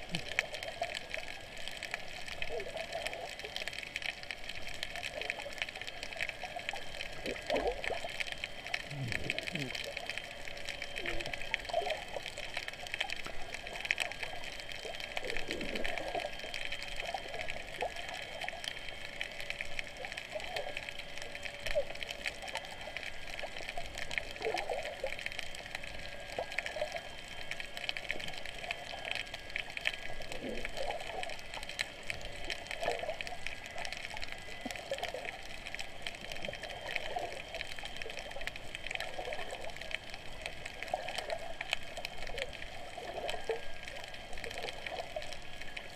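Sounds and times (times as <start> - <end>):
muffled underwater sloshing: 0.0 - 45.9
small underwater clicks: 0.0 - 45.9.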